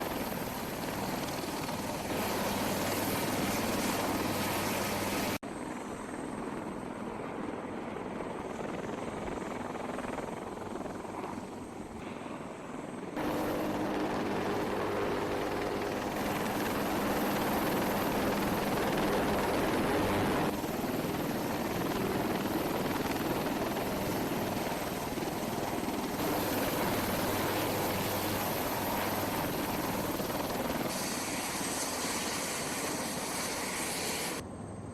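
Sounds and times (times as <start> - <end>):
helicopter rotor and turbine: 0.0 - 34.9.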